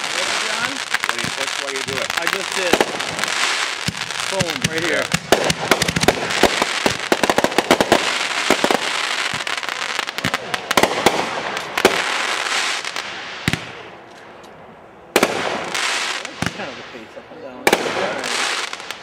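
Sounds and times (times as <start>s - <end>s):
fireworks bangs: 0.0s - 19.0s
fireworks crackle: 0.0s - 19.0s.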